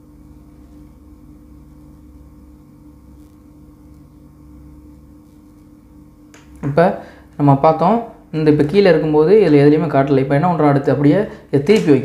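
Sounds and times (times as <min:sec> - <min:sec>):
steady low electrical hum: 0:00.0 - 0:12.0.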